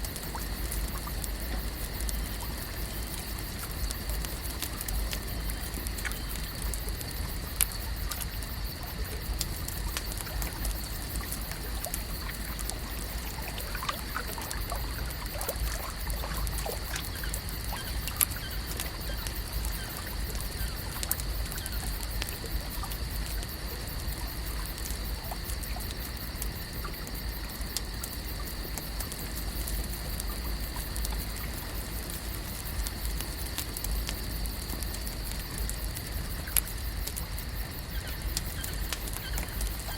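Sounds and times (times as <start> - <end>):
small clicks and pops: 0.0 - 39.9
steady hiss and low rumble: 0.0 - 39.9
water trickling and lapping: 0.0 - 39.9.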